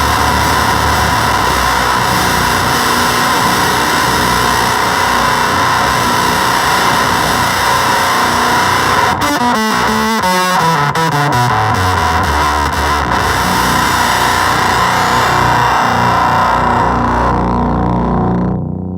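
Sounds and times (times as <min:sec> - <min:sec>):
fuzzed electric guitar: 0:00.0 - 0:18.9.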